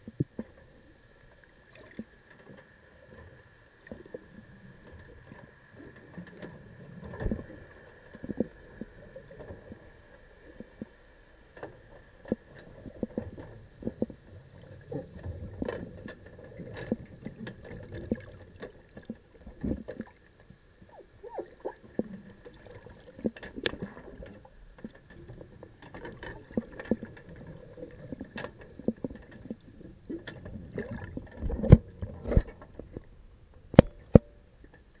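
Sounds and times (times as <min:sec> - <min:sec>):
muffled underwater knocks and clicks: 0:00.0 - 0:00.7, 0:01.8 - 0:35.0
faint steady whine: 0:00.0 - 0:35.0
low water murmur: 0:00.0 - 0:35.0.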